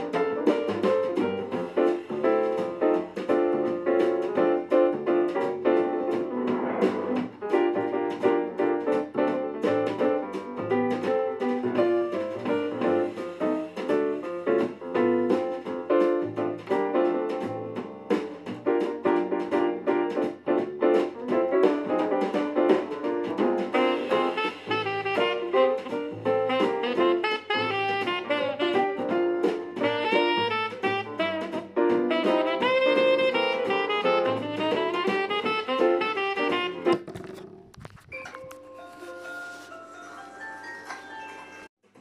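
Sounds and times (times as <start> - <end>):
upbeat piano instrumental: 0.0 - 42.0.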